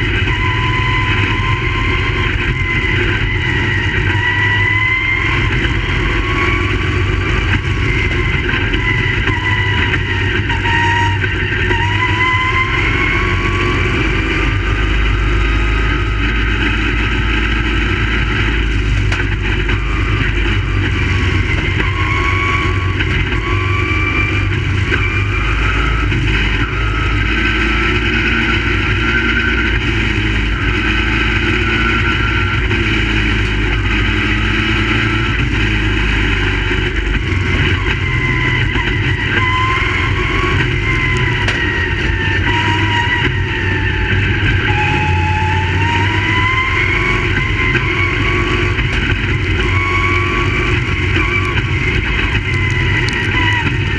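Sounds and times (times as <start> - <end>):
race car engines: 0.0 - 53.9.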